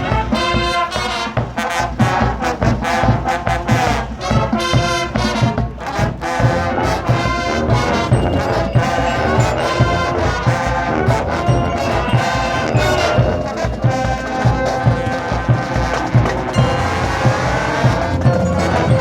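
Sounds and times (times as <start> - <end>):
brass chords with sharp accents: 0.0 - 19.0
marching band playing loudly: 0.0 - 19.0.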